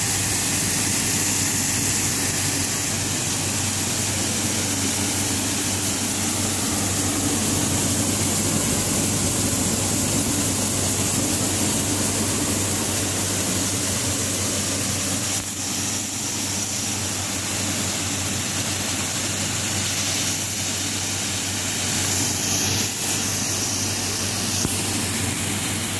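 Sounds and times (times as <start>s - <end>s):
grain cleaning machine humming: 0.0s - 25.9s.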